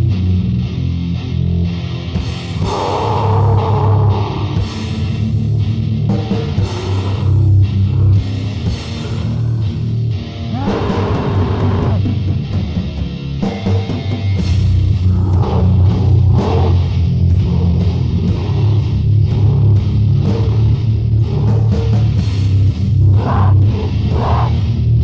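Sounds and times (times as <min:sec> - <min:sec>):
extreme metal music: 0:00.0 - 0:25.0.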